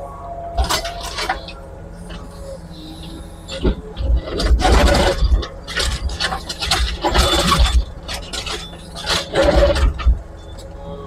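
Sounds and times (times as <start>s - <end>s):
excavator engine running: 0.0s - 11.0s
excavator bucket grinding concrete: 0.5s - 10.3s.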